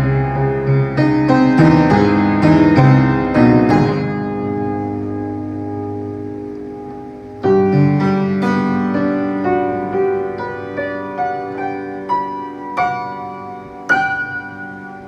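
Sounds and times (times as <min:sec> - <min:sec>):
solo piano: 0:00.0 - 0:15.0.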